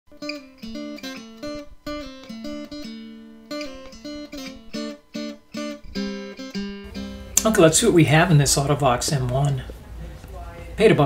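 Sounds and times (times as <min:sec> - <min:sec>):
acoustic guitar picking: 0:00.1 - 0:10.6.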